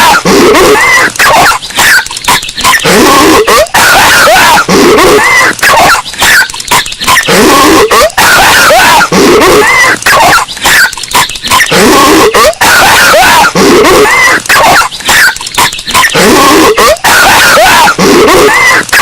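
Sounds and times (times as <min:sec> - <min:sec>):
distorted cartoon coughing: 0:00.0 - 0:19.0.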